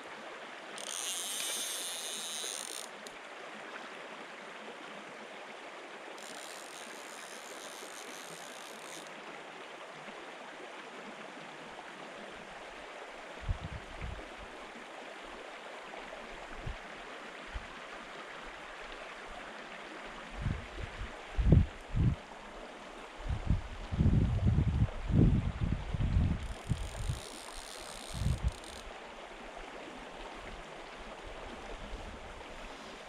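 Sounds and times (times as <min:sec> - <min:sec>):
stream running over stones: 0:00.0 - 0:33.0.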